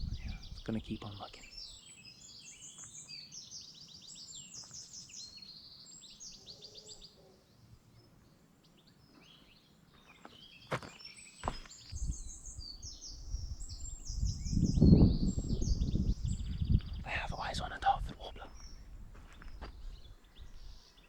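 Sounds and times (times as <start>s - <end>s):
small songbirds singing: 0.0s - 21.0s.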